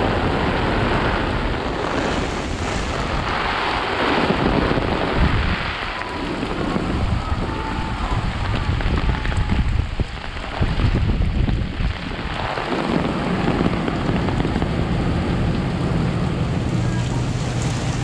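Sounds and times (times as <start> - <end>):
heavy rain on umbrella: 0.0 - 18.0
wind rumbling on microphone: 0.0 - 18.0.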